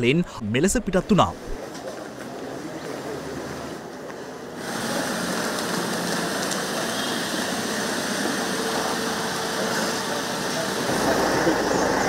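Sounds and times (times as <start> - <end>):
outdoor crowd noise: 0.0 - 12.0.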